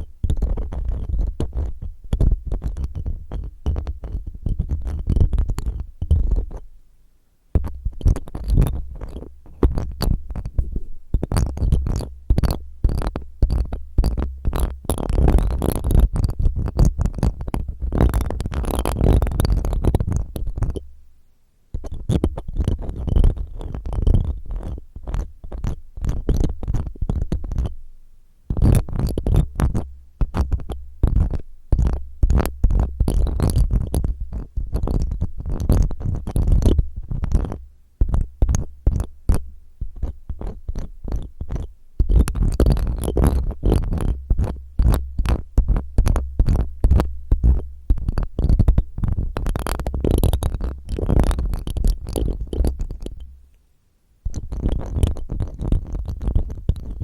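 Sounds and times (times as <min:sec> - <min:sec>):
ear-cleaning tool scraping microphone: 0:00.0 - 0:06.7, 0:07.6 - 0:20.8, 0:21.7 - 0:27.8, 0:28.5 - 0:53.4, 0:54.3 - 0:57.0.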